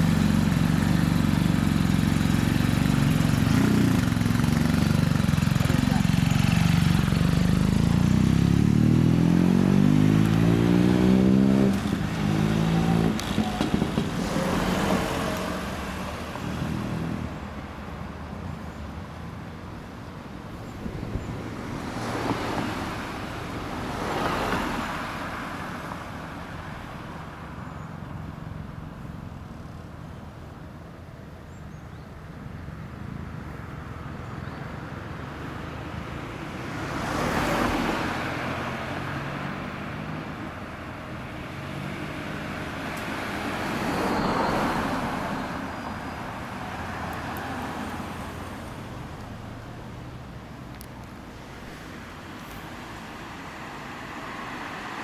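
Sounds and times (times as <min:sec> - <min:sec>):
cars passing by: 0:00.0 - 0:55.0
low traffic rumble: 0:00.0 - 0:55.0.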